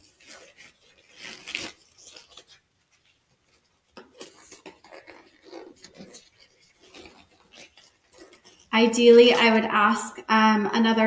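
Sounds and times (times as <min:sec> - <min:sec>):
rubber gloves rustling: 0:00.0 - 0:11.0.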